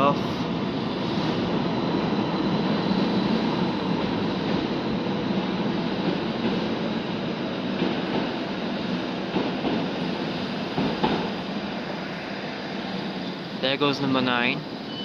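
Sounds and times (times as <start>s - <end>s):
electric train pulling out: 0.0s - 15.0s.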